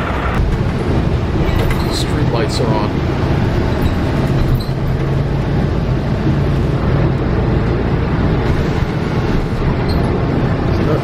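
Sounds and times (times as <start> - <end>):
road traffic noise: 0.0 - 11.0
vehicle engine hum: 0.0 - 11.0.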